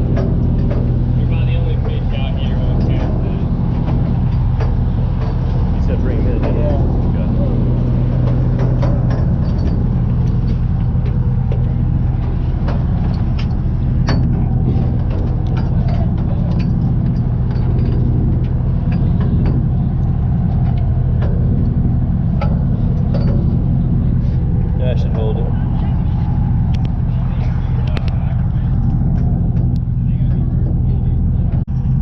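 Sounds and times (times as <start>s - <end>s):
low motor drone: 0.0s - 32.0s.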